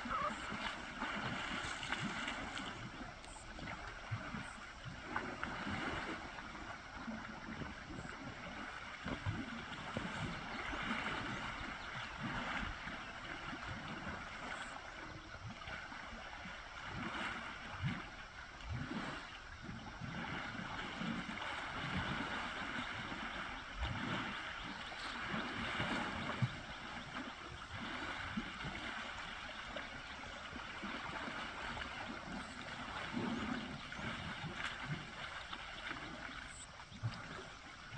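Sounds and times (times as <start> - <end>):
water sloshing and splashing: 0.0 - 37.9.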